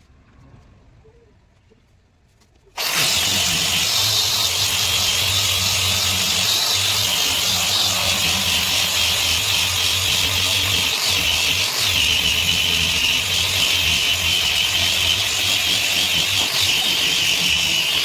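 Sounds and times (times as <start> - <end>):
electric power tool running: 2.8 - 18.0.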